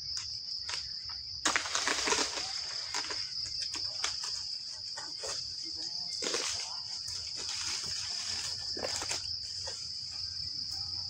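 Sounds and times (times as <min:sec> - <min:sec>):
insect chirring: 0:00.0 - 0:11.0
fronds rustling: 0:00.2 - 0:11.0
sickle scraping palm fronds: 0:01.4 - 0:10.3.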